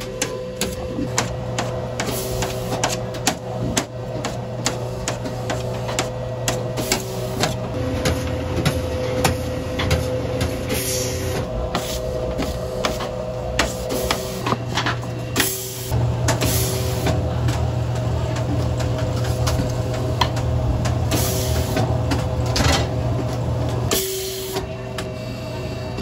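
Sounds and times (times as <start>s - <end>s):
equipment hum: 0.0s - 26.0s.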